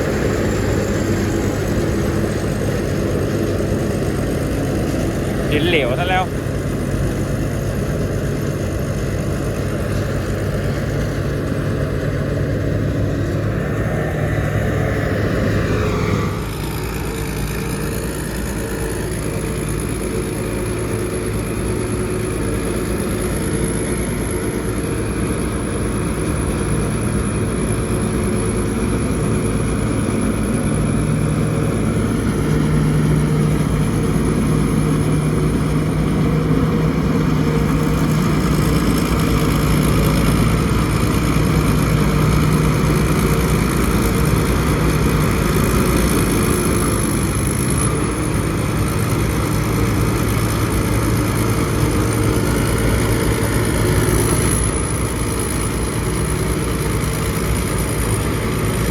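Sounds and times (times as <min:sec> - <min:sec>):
combine harvester engine running: 0:00.0 - 0:58.9
high machinery whine: 0:00.0 - 0:58.9.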